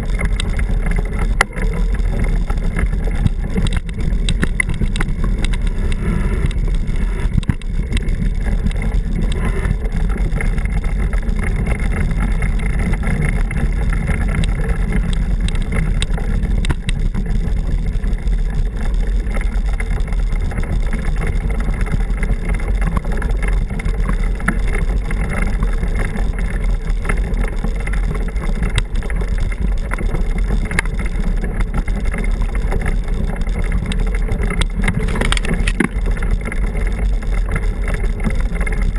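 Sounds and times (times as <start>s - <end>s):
bike tyres rolling on dirt trail: 0.0s - 38.9s
steady low rumble: 0.0s - 38.9s.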